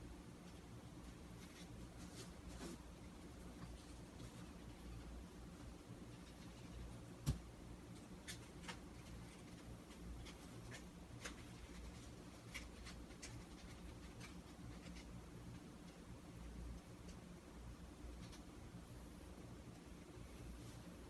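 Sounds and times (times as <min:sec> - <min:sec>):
low room hum: 0:00.0 - 0:21.0
ticks and scratches of crafting: 0:00.4 - 0:17.4, 0:18.0 - 0:18.7.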